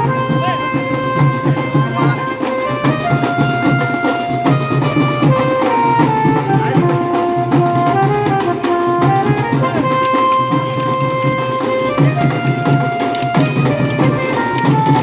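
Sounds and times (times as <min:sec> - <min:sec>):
busy drumming: 0:00.0 - 0:15.0
wind instrument melody: 0:00.0 - 0:15.0.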